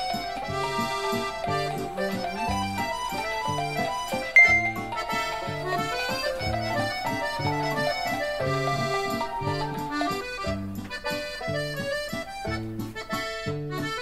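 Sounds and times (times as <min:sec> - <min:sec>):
comical solo accordion tune: 0:00.0 - 0:14.0.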